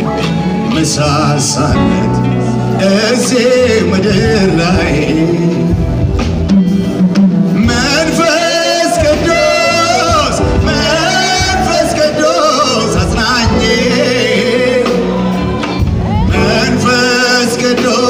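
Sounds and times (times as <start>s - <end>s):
band playing: 0.0s - 18.0s
man singing worship song: 0.6s - 5.8s, 7.6s - 15.4s, 16.3s - 18.0s.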